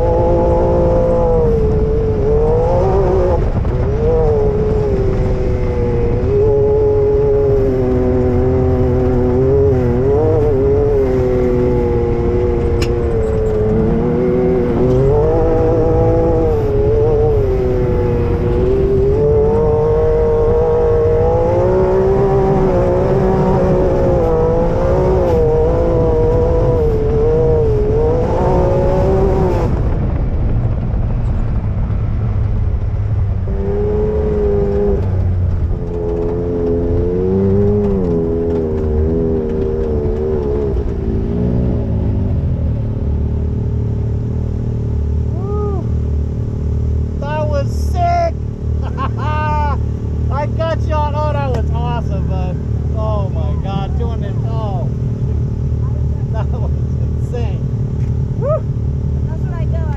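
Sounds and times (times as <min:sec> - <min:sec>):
utv engine running hard: 0:00.0 - 0:59.9
wind and driveline rumble: 0:00.0 - 0:59.9.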